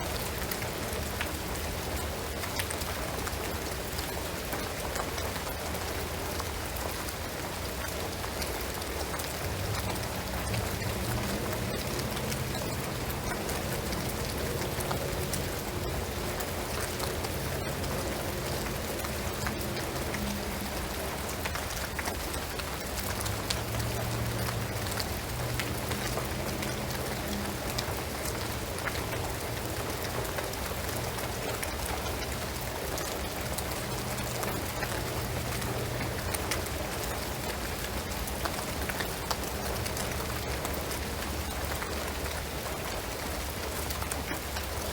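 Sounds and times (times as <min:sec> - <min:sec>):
rain on a roof: 0:00.0 - 0:44.9.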